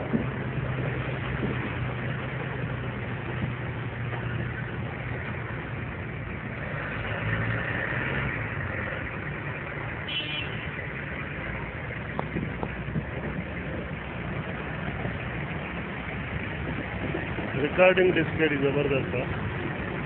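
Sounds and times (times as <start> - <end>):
constant rushing noise: 0.0 - 20.0
vehicle engine humming: 0.0 - 20.0.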